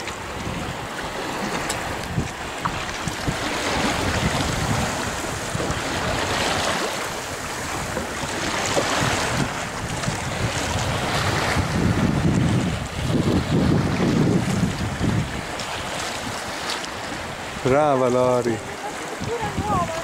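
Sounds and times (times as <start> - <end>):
small waves lapping: 0.0 - 20.0
wind buffeting microphone: 0.0 - 20.0.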